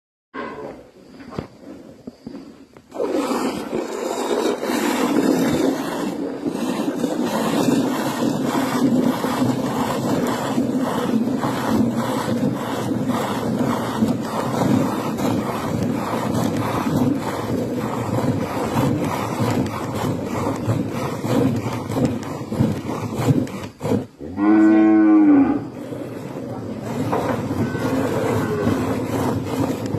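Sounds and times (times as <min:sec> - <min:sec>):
milking machine pulsing drone: 0:02.4 - 0:29.9.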